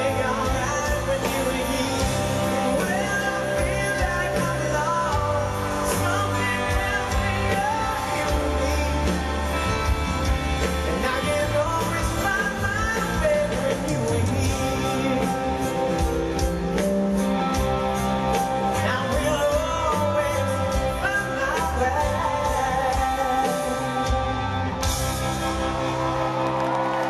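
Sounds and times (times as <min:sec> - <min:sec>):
man singing: 0:00.0 - 0:24.8
live rock band: 0:00.0 - 0:27.0.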